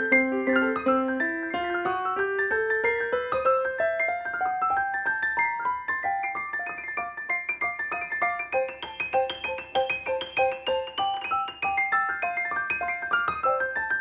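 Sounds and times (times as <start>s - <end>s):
piano chords: 0.0s - 14.0s
piano notes climbing: 0.0s - 14.0s.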